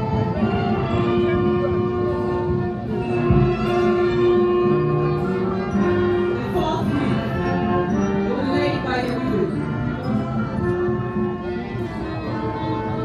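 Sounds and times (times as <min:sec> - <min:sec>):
orchestral music with held notes: 0:00.0 - 0:13.0.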